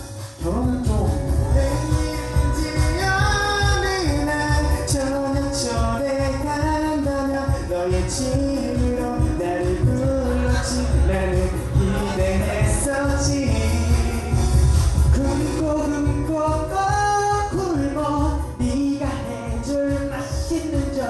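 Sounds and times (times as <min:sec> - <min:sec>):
pop song with singing: 0:00.0 - 0:21.0
steady bass beat: 0:00.0 - 0:21.0.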